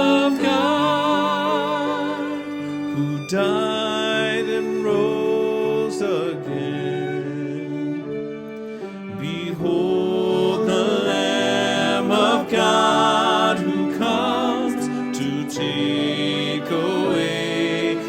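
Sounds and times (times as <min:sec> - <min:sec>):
sustained sung notes with vibrato: 0:00.0 - 0:18.0.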